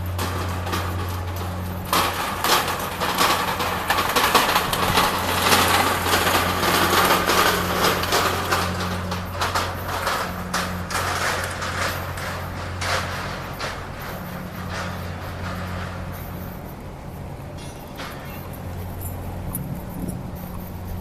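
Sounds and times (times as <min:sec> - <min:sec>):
irregular crackling noise: 0:00.0 - 0:17.2
low ship engine hum: 0:00.0 - 0:21.0.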